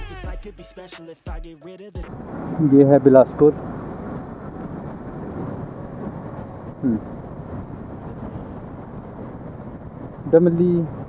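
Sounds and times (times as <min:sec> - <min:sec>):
motorcycle engine and road noise: 0:02.1 - 0:11.0
wind on microphone: 0:02.1 - 0:11.0.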